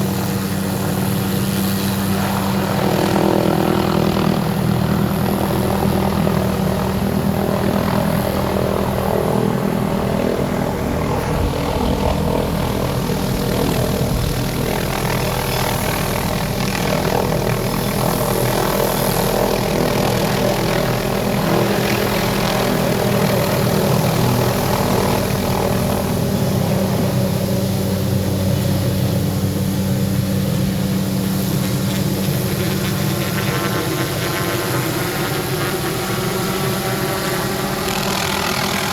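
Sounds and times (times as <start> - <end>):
aircraft engine drone: 0.0 - 38.9.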